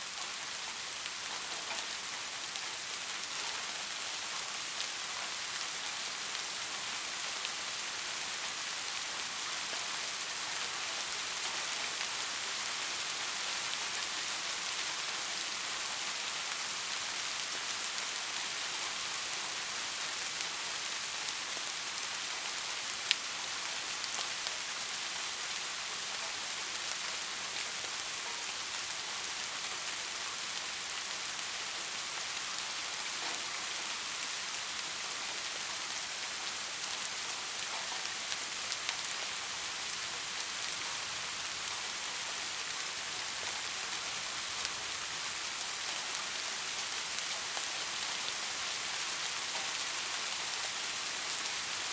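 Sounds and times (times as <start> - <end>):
steady rain hiss: 0.0 - 51.9
raindrops ticking on a surface: 0.1 - 51.9.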